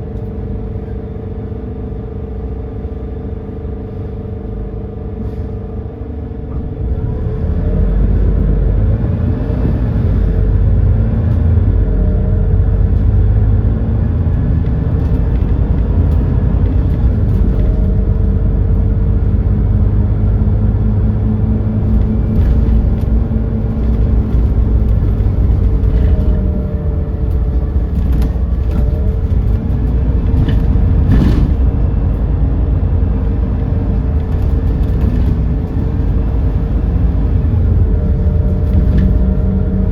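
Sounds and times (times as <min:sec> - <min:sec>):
bus engine low rumble: 0:00.0 - 0:39.9.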